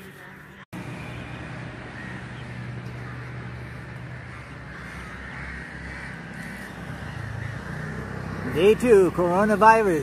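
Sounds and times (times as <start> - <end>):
crows cawing: 1.7 - 10.0.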